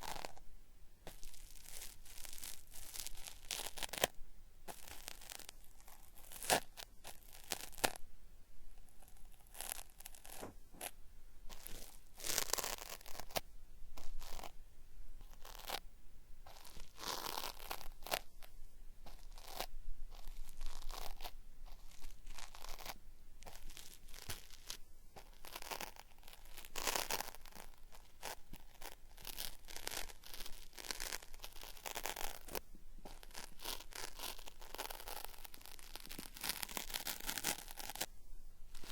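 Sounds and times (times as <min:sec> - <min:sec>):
cotton swab scraping microphone: 0:00.0 - 0:00.4, 0:01.0 - 0:08.0, 0:08.8 - 0:14.6, 0:15.2 - 0:15.8, 0:16.4 - 0:38.1, 0:38.7 - 0:38.9.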